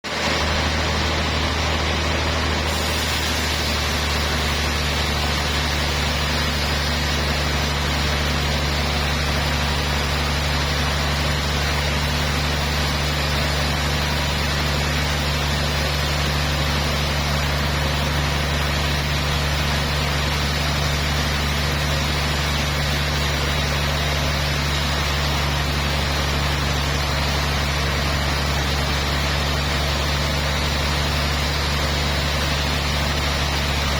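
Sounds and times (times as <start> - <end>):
sawmill machinery running: 0.0 - 33.9.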